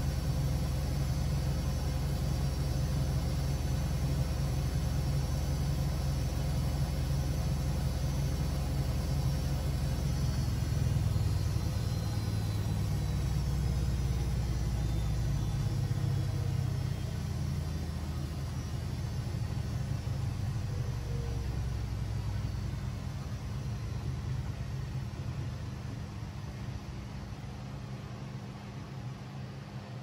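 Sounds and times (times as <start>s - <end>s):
faint motor whine: 0.0s - 30.0s
washing machine rumble: 0.0s - 30.0s.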